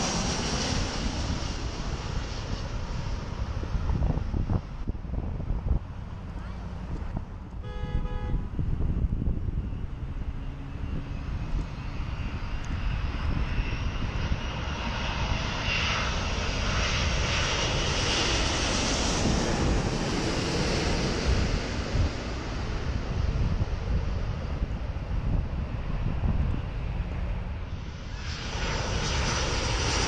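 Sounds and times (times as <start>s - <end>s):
jet airliner flying overhead: 0.0s - 30.0s.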